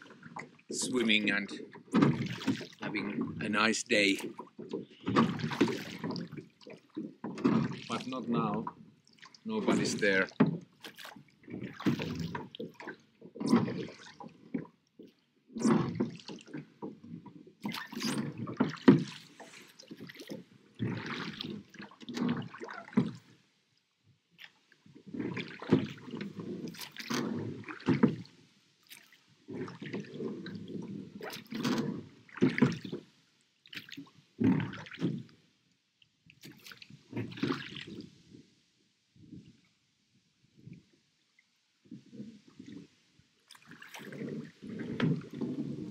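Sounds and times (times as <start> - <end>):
water dripping from oars: 0.0 - 38.4, 40.6 - 45.9
oars pulling through water: 0.0 - 45.9.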